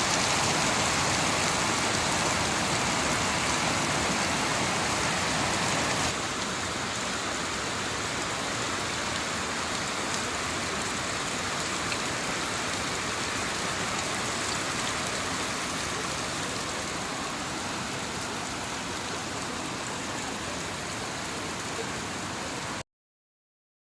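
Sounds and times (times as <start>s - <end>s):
heavy rain falling: 0.0s - 22.8s.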